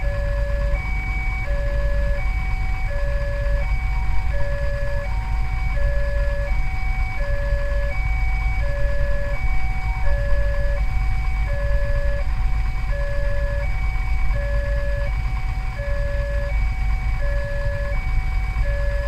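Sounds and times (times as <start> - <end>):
low steady rumble: 0.0 - 19.0
two-tone crossing alarm: 0.0 - 19.0.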